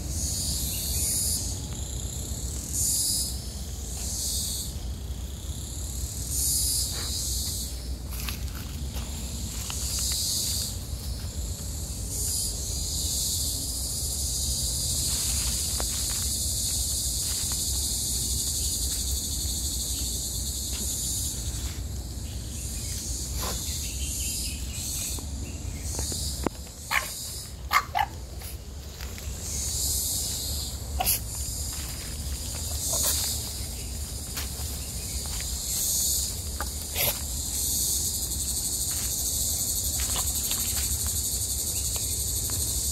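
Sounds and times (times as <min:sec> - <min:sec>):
cicadas droning: 0:00.0 - 0:42.9.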